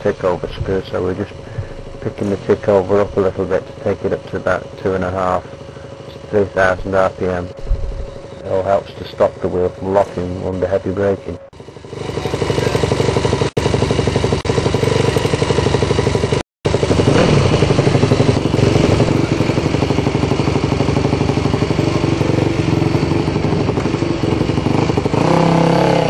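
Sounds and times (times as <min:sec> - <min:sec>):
race bike engine idling: 0:00.0 - 0:26.0.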